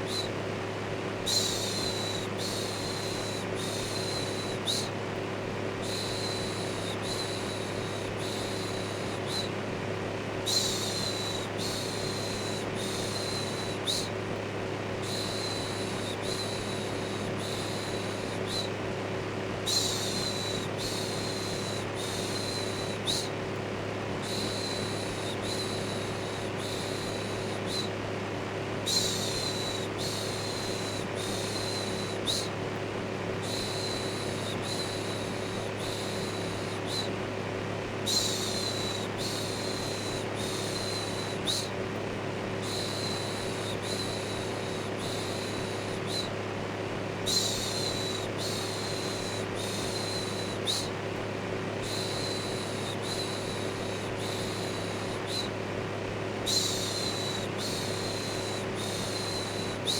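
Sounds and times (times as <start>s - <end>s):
electric fan hum: 0.0s - 59.9s.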